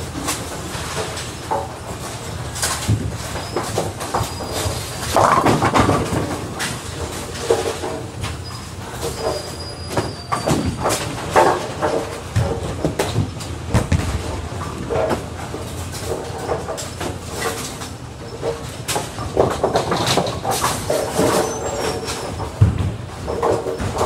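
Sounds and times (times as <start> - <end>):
bowling alley noise: 0.0 - 24.0
bowling pins clattering: 0.0 - 24.0.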